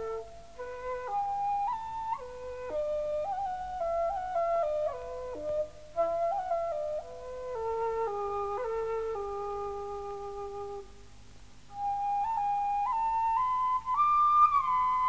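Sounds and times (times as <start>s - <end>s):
bamboo flute slow melody: 0.0s - 11.0s, 11.7s - 15.0s.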